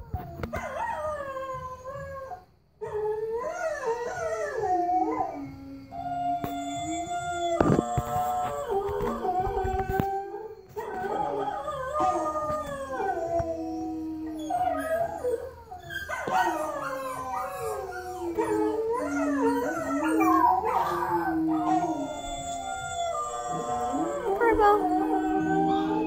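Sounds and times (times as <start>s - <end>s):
dog howling: 0.0s - 26.0s.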